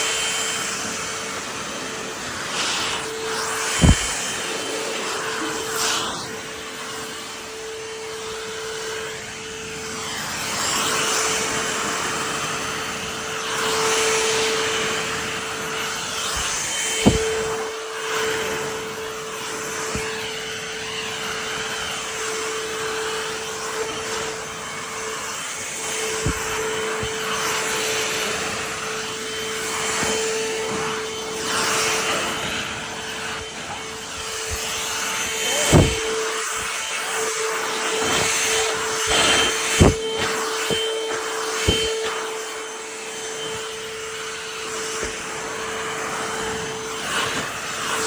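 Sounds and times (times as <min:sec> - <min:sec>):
hand vacuum running: 0:00.0 - 0:48.0.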